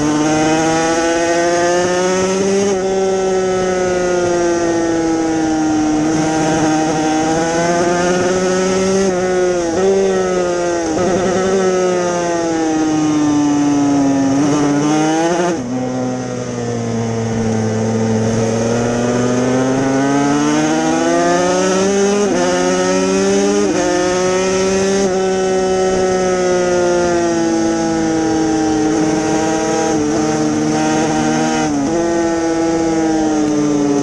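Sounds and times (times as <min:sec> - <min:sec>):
two-stroke racing engine revving: 0:00.0 - 0:16.2, 0:17.2 - 0:34.0.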